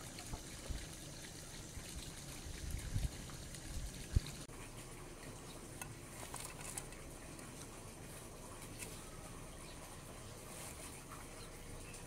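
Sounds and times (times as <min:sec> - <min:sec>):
water pouring into a pool: 0:00.0 - 0:12.0.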